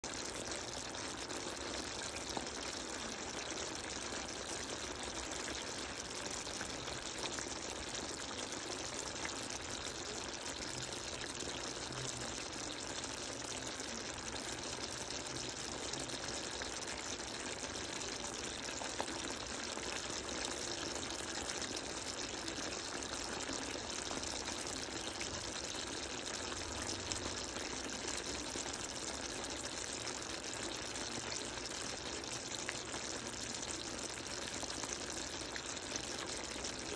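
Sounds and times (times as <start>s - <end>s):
sauce bubbling and sizzling: 0.0s - 36.9s.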